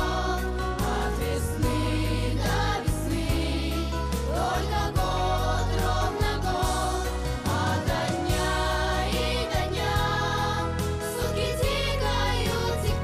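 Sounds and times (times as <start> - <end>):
steady drum beat: 0.0 - 11.0
upbeat pop song: 0.0 - 13.0.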